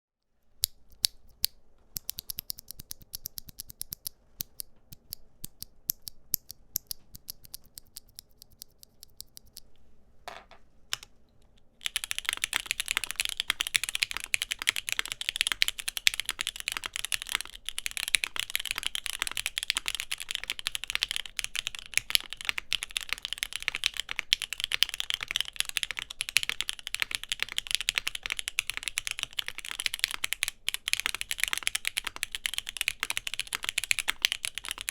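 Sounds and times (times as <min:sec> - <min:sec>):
typing on mechanical keyboard: 0:00.9 - 0:09.6, 0:11.8 - 0:34.9.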